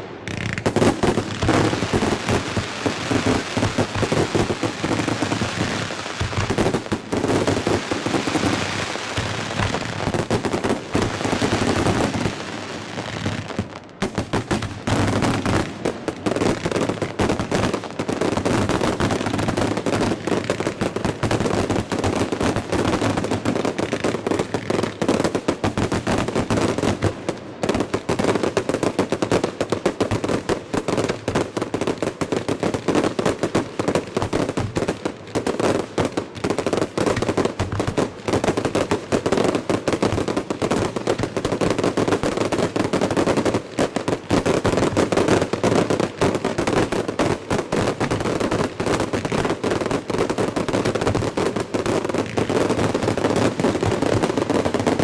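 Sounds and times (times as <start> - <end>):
fireworks shells firing and bursting: 0.0 - 55.0.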